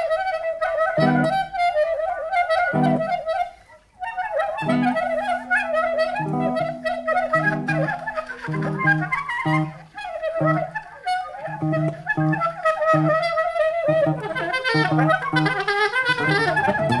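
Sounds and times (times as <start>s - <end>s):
soprano saxophone: 0.0s - 17.0s
low guitar notes: 0.9s - 1.6s, 2.6s - 3.4s, 4.3s - 17.0s.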